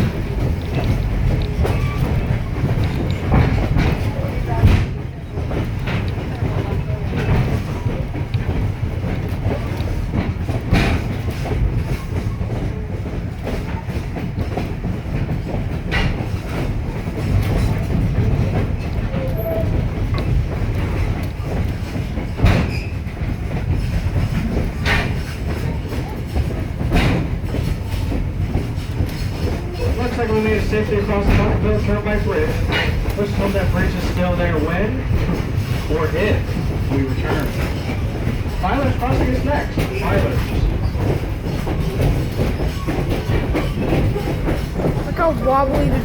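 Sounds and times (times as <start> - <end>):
train wheels rumbling: 0.0 - 46.0
wheels clacking over rail joints: 0.0 - 46.0.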